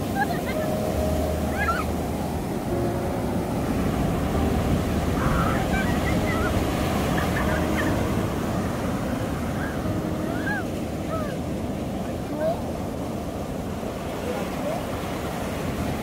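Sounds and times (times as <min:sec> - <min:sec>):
surf breaking on beach: 0:00.0 - 0:16.0.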